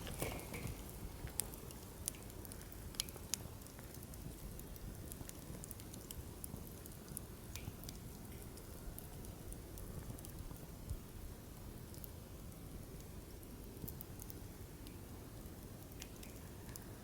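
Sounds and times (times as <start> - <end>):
fire crackles and pops: 0.0 - 17.0.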